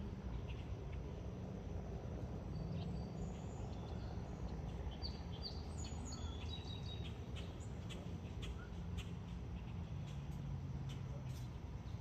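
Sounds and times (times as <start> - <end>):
jet airliner rumble overhead: 0.0 - 12.0
small birds chirping: 0.3 - 1.2, 2.1 - 12.0.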